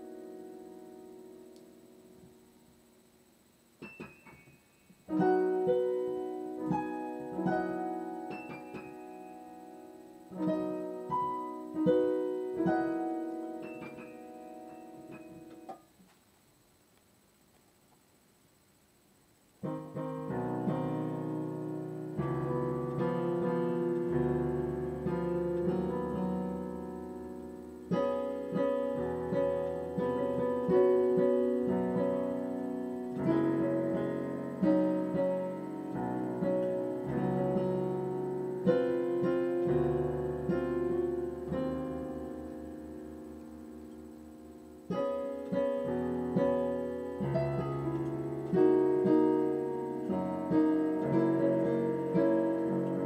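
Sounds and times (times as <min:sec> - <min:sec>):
solo piano playing: 0:00.0 - 0:02.4, 0:05.1 - 0:15.8, 0:19.6 - 0:53.0.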